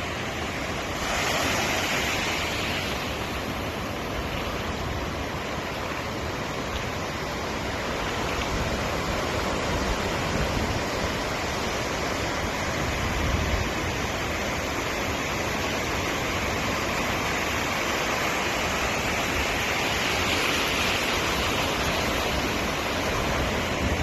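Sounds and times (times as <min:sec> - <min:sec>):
sea waves breaking: 0:00.0 - 0:24.0.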